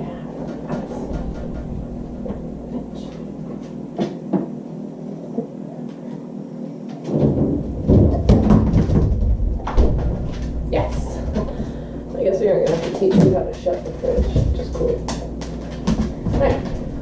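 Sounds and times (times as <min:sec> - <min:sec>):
heavy low thumping and rumbling: 0:00.0 - 0:04.0, 0:07.1 - 0:17.0.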